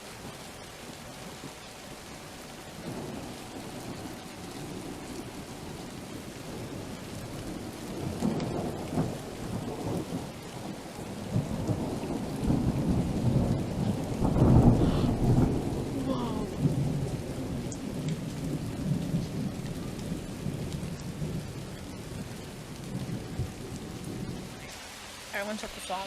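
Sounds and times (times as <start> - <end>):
steady rain: 0.0 - 26.0
rolling thunder: 2.5 - 24.8.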